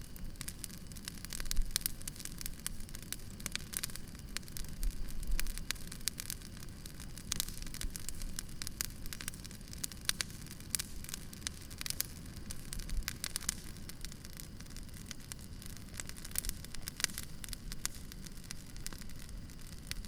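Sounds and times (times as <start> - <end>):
campfire crackling and popping: 0.0 - 20.0
low rumble of flames: 0.0 - 20.0.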